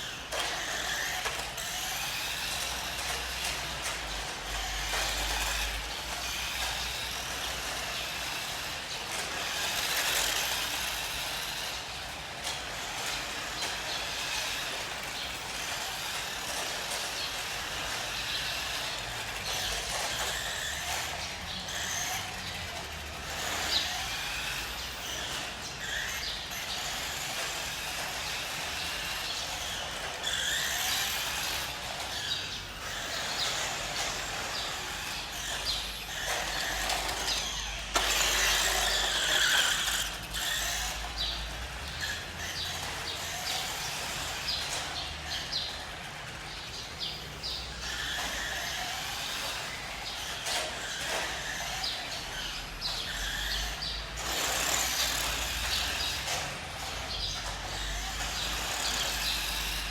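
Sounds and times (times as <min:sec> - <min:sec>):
small motor revving: 0:00.0 - 0:59.9.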